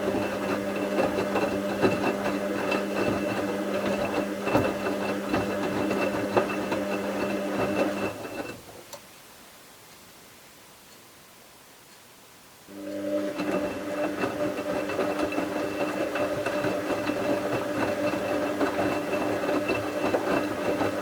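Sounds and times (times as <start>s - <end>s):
washing machine motor hum: 0.0s - 8.8s, 12.7s - 21.0s.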